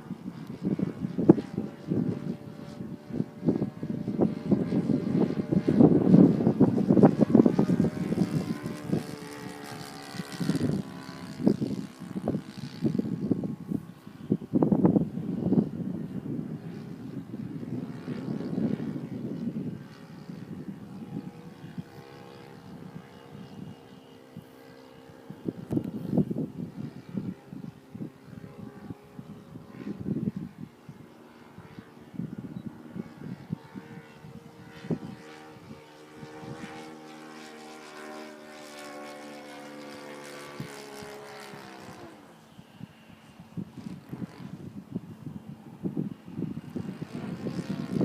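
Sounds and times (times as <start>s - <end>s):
model plane engine droning: 0.0s - 48.0s.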